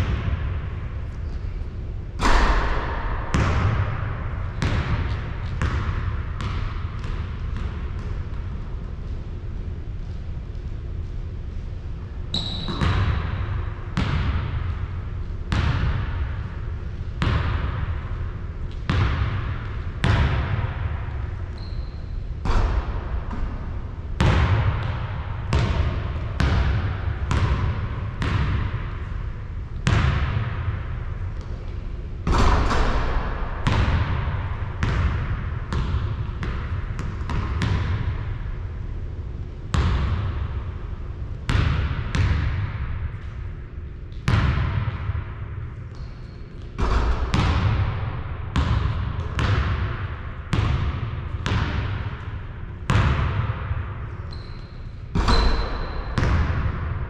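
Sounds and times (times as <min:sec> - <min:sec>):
basketball bouncing on court: 0:00.0 - 0:10.7, 0:12.0 - 0:57.0.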